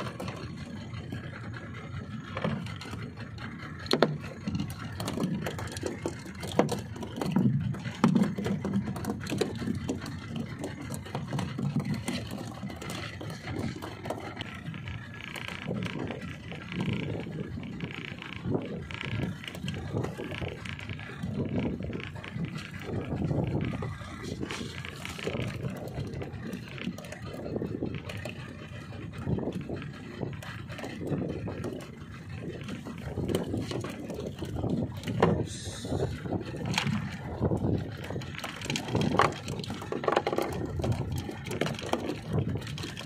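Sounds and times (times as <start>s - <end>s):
choppy water around boat: 0.0s - 43.0s
wind rumble: 0.0s - 43.0s.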